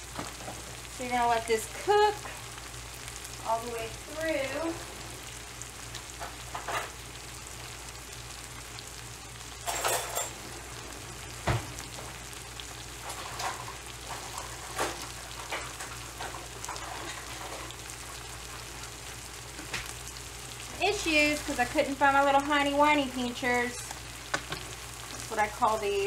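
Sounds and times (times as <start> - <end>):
chicken sizzling in butter: 0.0 - 26.0.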